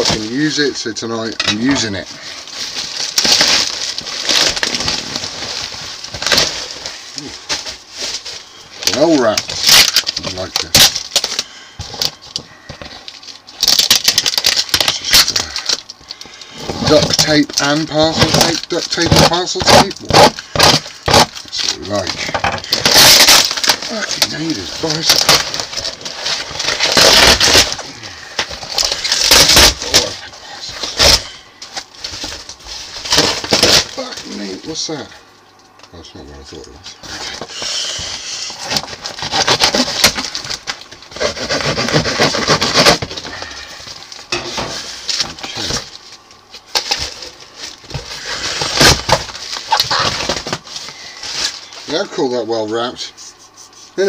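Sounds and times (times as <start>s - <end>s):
plastic and tape tearing: 0.0s - 0.6s, 1.5s - 35.0s, 36.5s - 52.1s.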